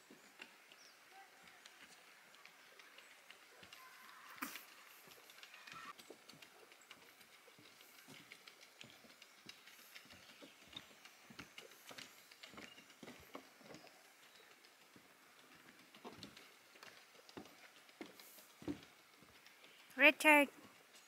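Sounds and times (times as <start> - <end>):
footsteps on a forest trail: 0.0 - 19.9.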